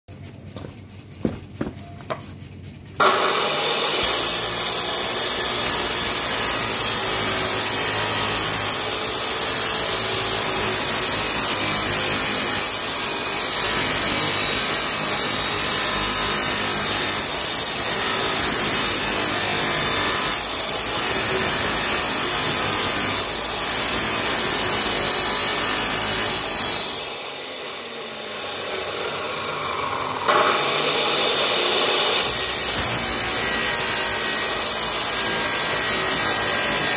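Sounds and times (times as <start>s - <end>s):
abrasive saw grinding steel pipe: 3.0s - 36.9s.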